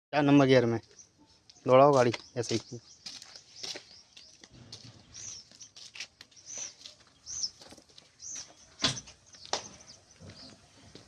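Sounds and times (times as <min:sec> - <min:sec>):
bird chirping: 0:00.2 - 0:11.0.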